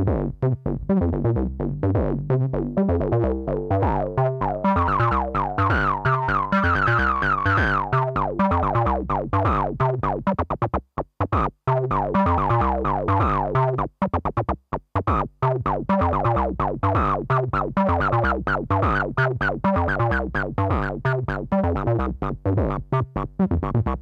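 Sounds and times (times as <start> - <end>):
synthesizer acid bassline: 0.8 - 10.6, 11.3 - 24.0.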